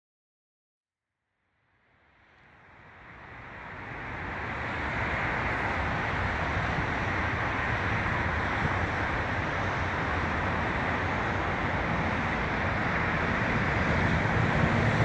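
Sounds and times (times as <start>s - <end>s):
road traffic noise: 1.8s - 15.0s
wind rumbling on microphone: 2.8s - 15.0s.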